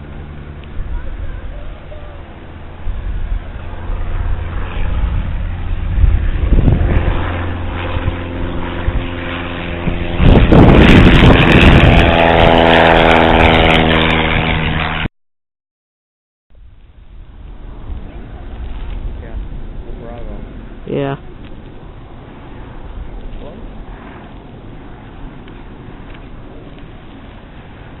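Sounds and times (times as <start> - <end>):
propeller airplane engine passing: 0.0 - 15.1, 16.5 - 28.0.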